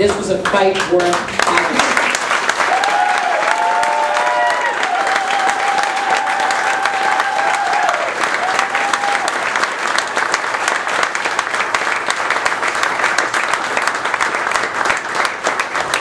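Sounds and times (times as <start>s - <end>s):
audience applauding: 0.4s - 16.0s.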